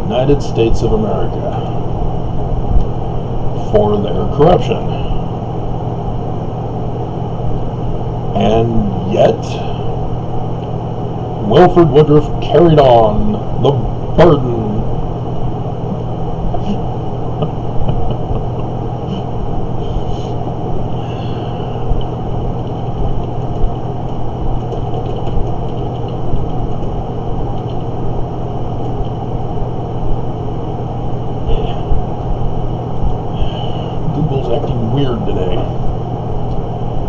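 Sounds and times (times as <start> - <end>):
constant hum: 0.0 - 37.0
low rumble: 0.8 - 37.0.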